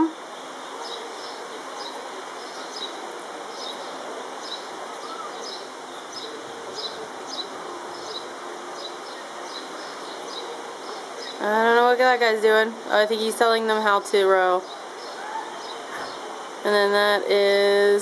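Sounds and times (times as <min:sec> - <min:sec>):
small birds chirping: 0:00.0 - 0:17.6
steady outdoor hiss: 0:00.0 - 0:18.0.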